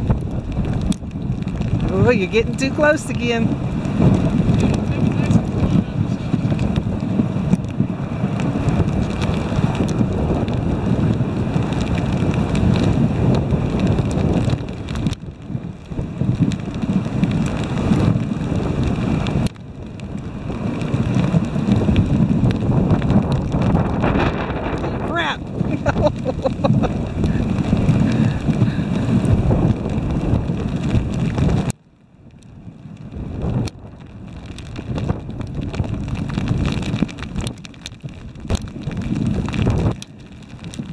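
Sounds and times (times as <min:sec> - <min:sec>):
sled runners rushing over snow: 0:00.0 - 0:31.8, 0:32.5 - 0:40.9
wind buffeting microphone: 0:00.0 - 0:40.9.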